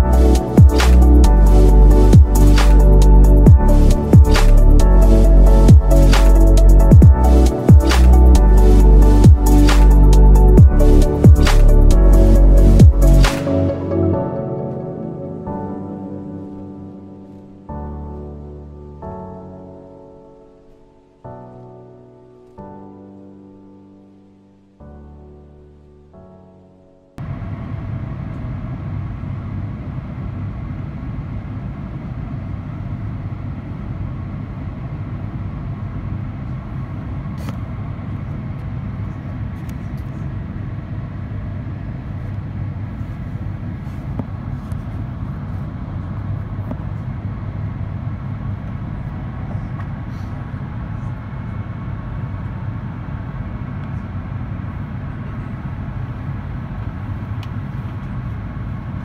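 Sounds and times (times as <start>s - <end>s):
airplane cabin rumble: 0.0s - 21.5s, 27.2s - 59.0s.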